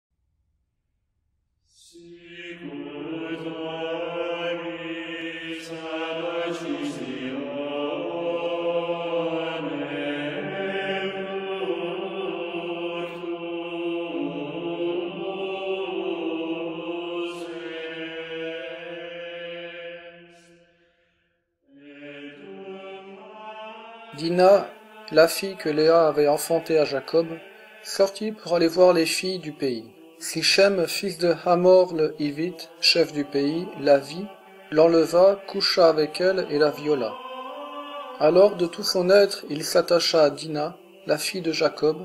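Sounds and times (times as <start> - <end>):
voices singing a chant: 1.8 - 20.8, 21.7 - 42.0.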